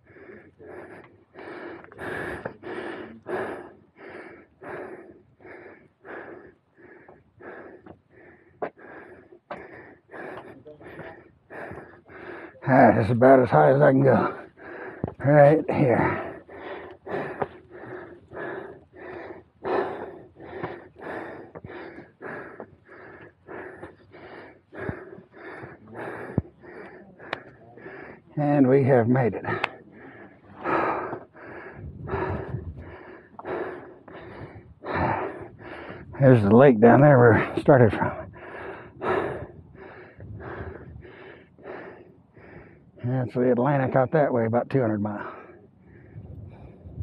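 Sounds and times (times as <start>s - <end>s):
man breathing hard: 0.0s - 43.1s, 45.1s - 47.0s
man panting heavily: 0.0s - 47.0s.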